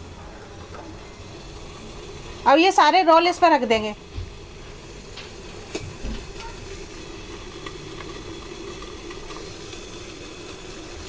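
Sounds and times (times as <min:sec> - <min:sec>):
water steaming on gas burner: 0:00.0 - 0:11.0.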